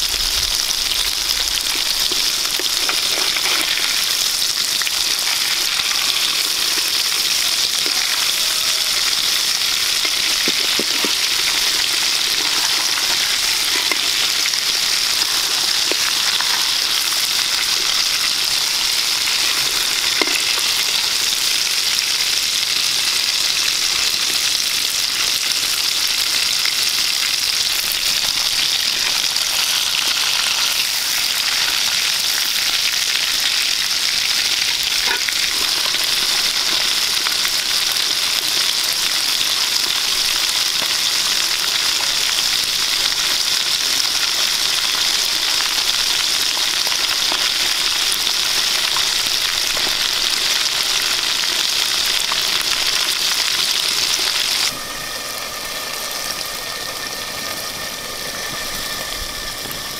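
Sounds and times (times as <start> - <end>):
fish frying in hot oil: 0.0 - 59.9.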